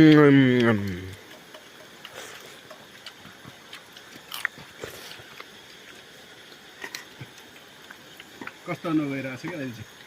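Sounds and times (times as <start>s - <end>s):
person chewing and biting food: 0.0s - 8.6s.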